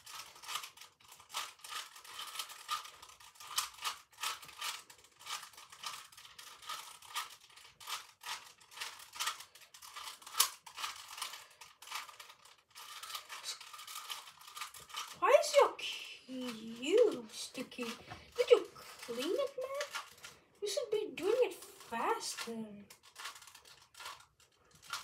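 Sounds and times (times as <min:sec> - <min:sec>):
puzzle cube clicking as twisted: 0:00.0 - 0:15.2, 0:16.4 - 0:20.4, 0:21.2 - 0:25.0.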